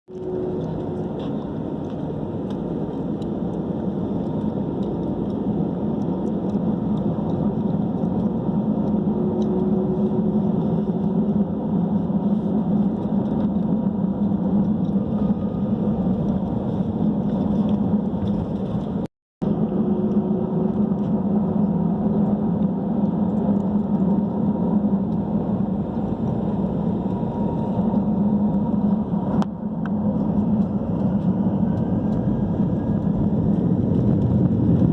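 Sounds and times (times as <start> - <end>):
jet engines heard in cabin: 0.1 - 34.9.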